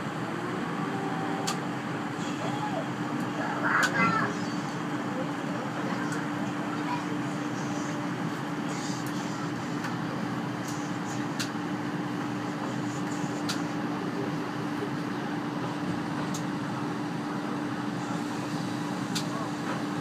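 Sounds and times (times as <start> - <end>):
passenger coach rumble: 0.0 - 20.0.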